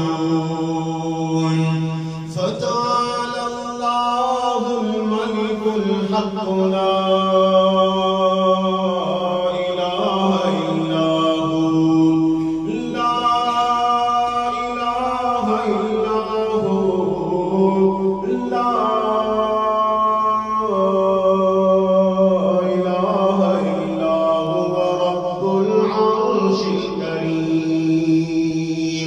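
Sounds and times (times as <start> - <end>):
man chanting melodically: 0.0 - 29.0.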